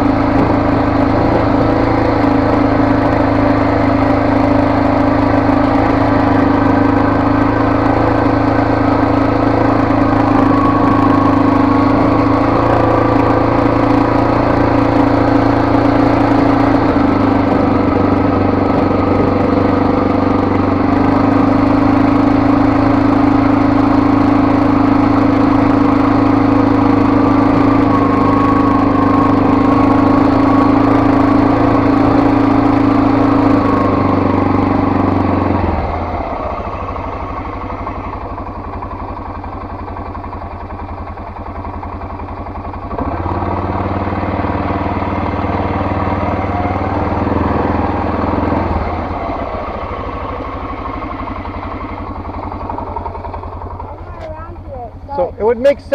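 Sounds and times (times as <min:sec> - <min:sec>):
off-road vehicle engine running: 0:00.0 - 0:55.9.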